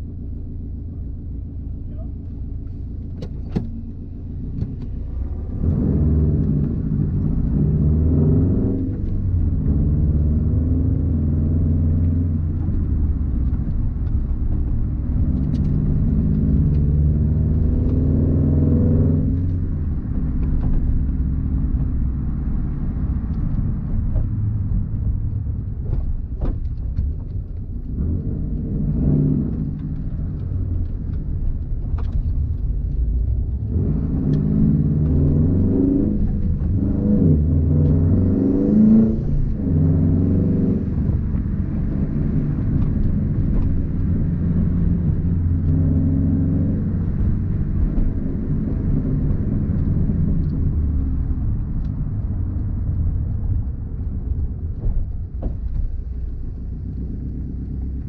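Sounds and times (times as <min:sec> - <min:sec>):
car engine accelerating: 0:00.0 - 0:58.0
low engine drone: 0:00.0 - 0:58.0.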